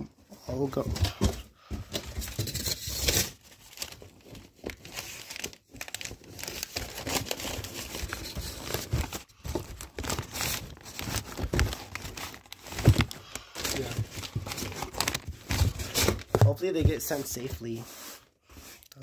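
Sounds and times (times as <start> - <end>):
paper and cardboard crinkling: 0.6 - 19.0.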